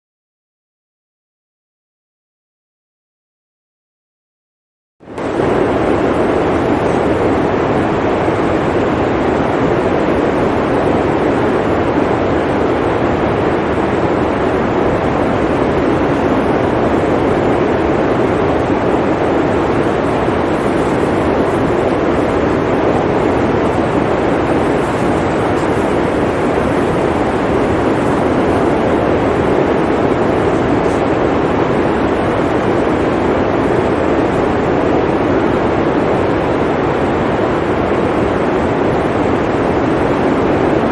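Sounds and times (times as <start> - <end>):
blizzard wind blowing: 5.1 - 40.9.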